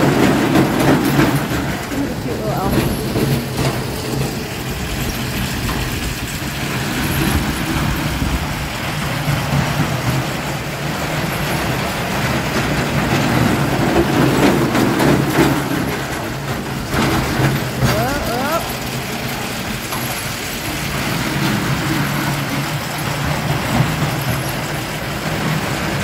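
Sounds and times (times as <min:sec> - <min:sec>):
roller coaster clacks: 0:00.0 - 0:26.0
roller coaster rumbling on steel track: 0:00.0 - 0:26.0.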